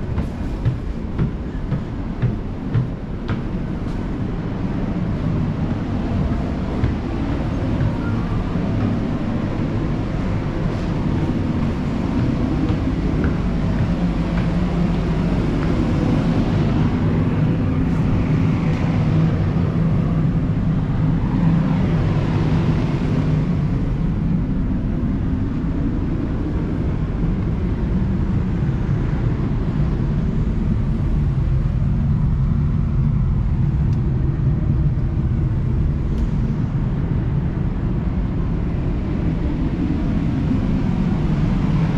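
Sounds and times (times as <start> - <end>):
large engine rumbling: 0.0 - 41.9.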